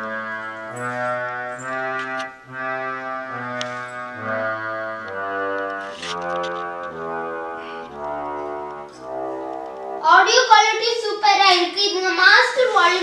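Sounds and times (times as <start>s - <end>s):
keyboard reed-organ chords: 0.0s - 13.0s.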